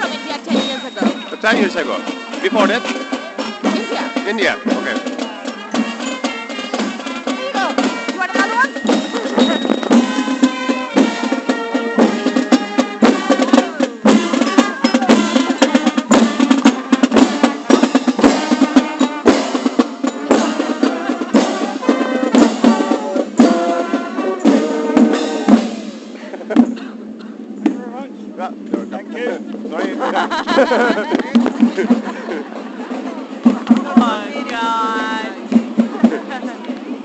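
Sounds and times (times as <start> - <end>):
snare and bass drums beating: 0.0 - 26.8, 27.6 - 37.0
marching band playing: 0.0 - 37.0.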